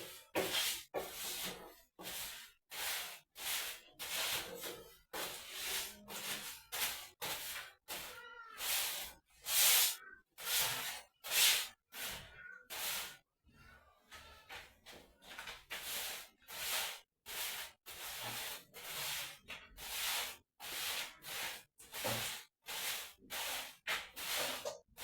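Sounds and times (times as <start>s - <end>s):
swishing strokes across floor: 0.0s - 8.1s, 8.7s - 13.2s, 15.2s - 24.8s.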